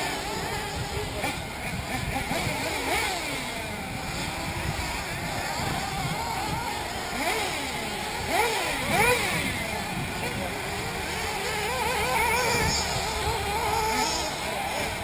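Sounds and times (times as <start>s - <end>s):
rc car engines revving: 0.0s - 15.0s.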